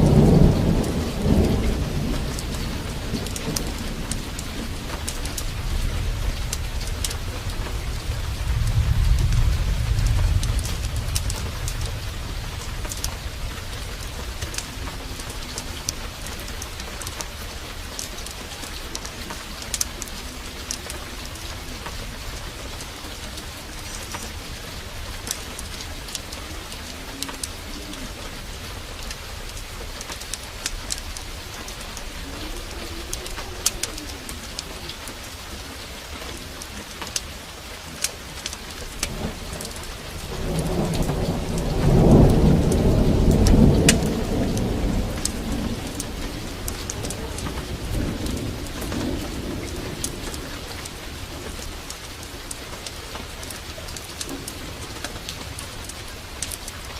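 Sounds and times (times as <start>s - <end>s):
low thunder rumble: 0.0s - 35.8s, 38.3s - 56.9s
heavy rain: 0.0s - 56.9s
wood fire crackling: 0.0s - 56.9s.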